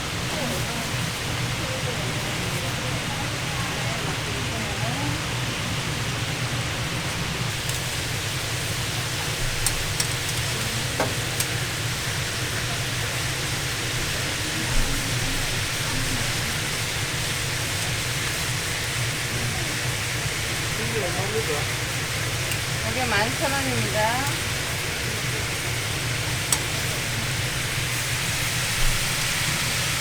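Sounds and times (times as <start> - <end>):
meat sizzling on a grill: 0.0 - 30.0.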